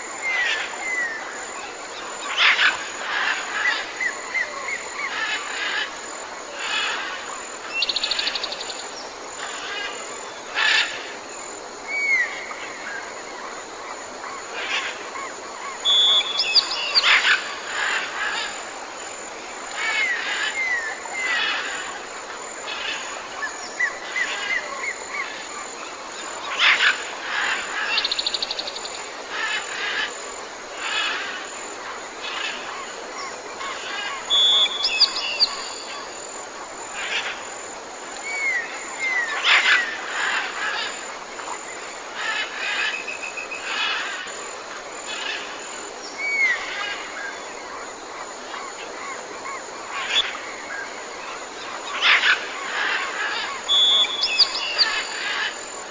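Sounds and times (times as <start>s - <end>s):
steady outdoor hiss: 0.0s - 55.9s.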